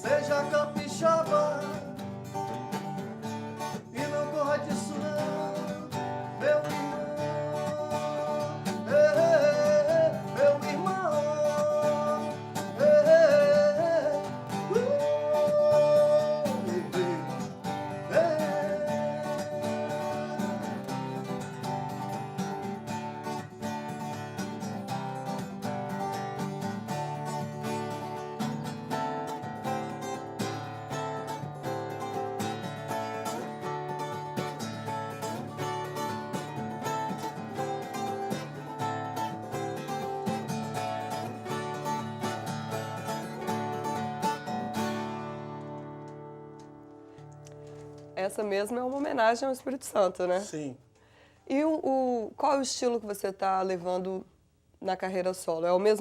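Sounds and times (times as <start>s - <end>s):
acoustic guitar strumming: 0.0s - 51.4s.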